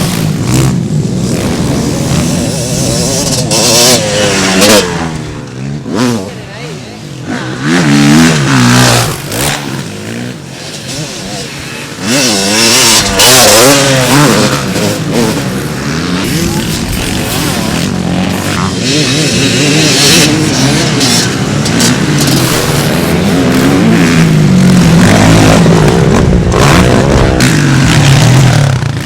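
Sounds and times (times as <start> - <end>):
motocross engines revving: 0.0 - 29.0.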